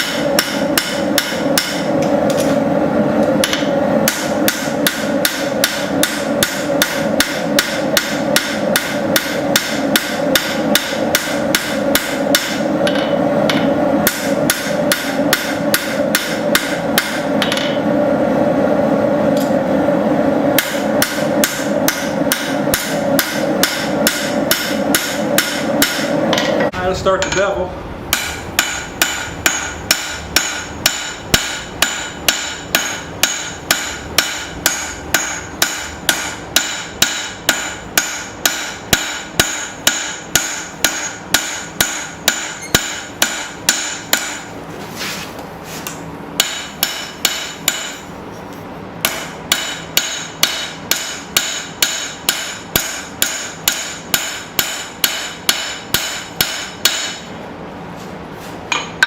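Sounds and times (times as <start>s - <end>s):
hammer striking steel on anvil: 0.0s - 2.6s, 3.4s - 17.8s, 20.6s - 27.5s, 28.1s - 44.5s, 45.9s - 48.1s, 49.0s - 57.4s, 58.7s - 59.0s.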